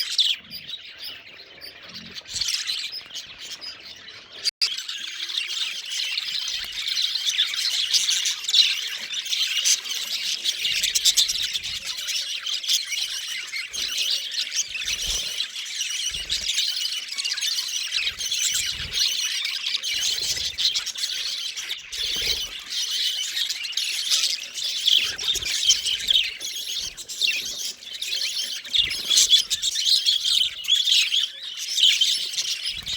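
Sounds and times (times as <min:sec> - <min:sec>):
budgerigars chattering and chirping: 0:00.0 - 0:32.9.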